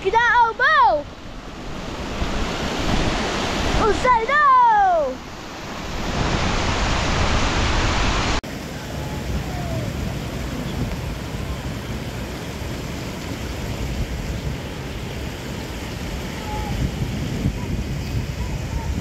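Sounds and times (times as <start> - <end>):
distant running water: 0.0 - 19.0
floodwater rushing: 0.0 - 19.0
wind: 0.0 - 19.0.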